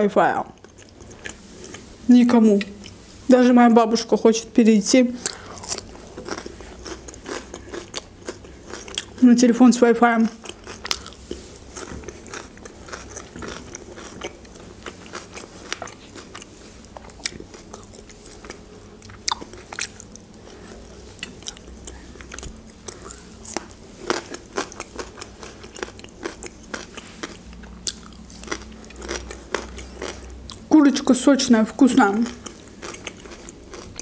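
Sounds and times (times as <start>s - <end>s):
woman chewing: 0.5s - 1.9s, 5.2s - 9.2s, 10.4s - 30.7s, 32.2s - 34.0s.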